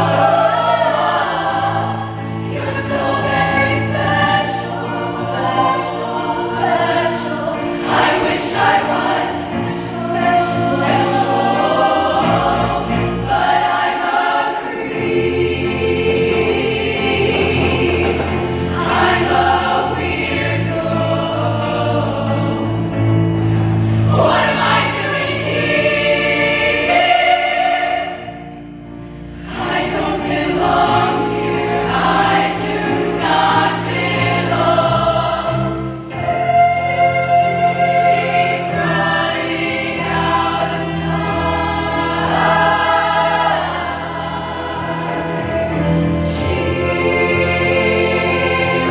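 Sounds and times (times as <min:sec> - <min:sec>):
women's choir singing in harmony: 0:00.0 - 0:48.9.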